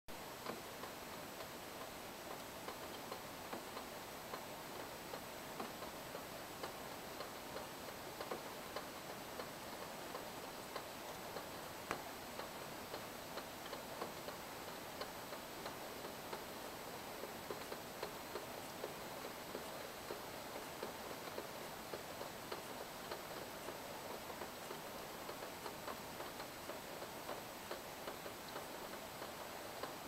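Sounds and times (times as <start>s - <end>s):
rain falling: 0.1s - 30.0s.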